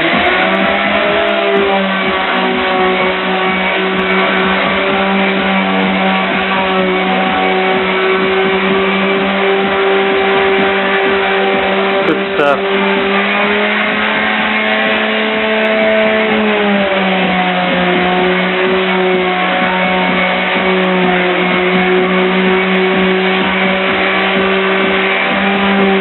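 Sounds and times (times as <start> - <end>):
drywall sander motor whining: 0.0 - 26.0.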